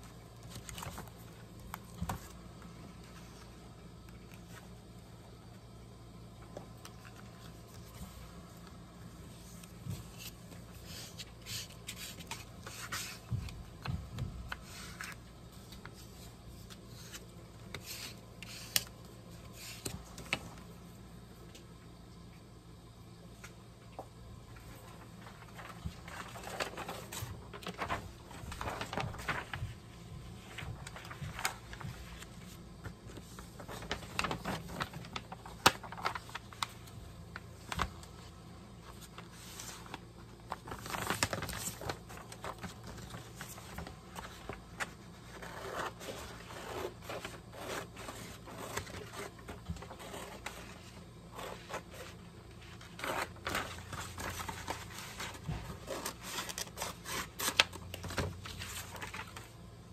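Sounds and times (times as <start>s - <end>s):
paper rustling and sliding: 0.4s - 3.6s, 9.3s - 20.6s, 24.6s - 59.6s.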